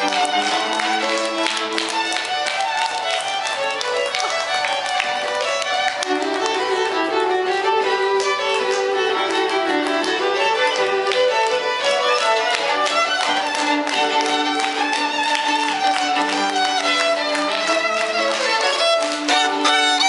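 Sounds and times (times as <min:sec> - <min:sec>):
violin duet: 0:00.0 - 0:20.0.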